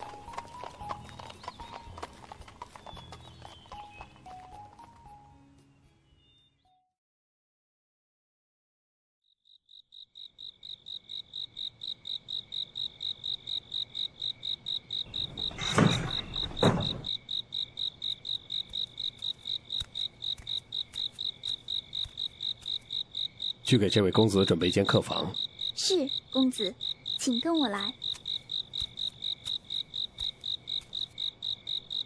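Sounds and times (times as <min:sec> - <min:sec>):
cricket chirping: 0:00.0 - 0:05.3, 0:09.4 - 0:32.0.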